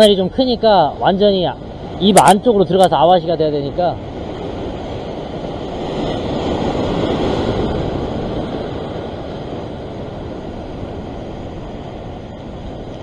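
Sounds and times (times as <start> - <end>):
ocean swell washing over rocks: 0.0 - 13.0.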